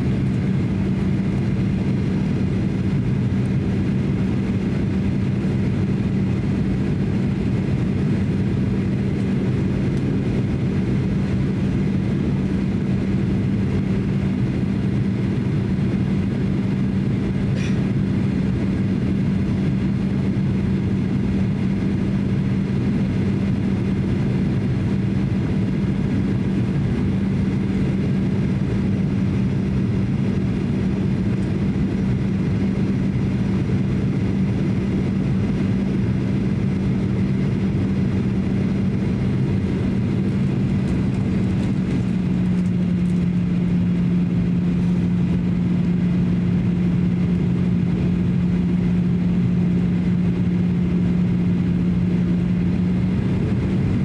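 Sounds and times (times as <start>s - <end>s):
constant low hum: 0.0s - 54.0s
jet engines droning: 0.0s - 54.0s.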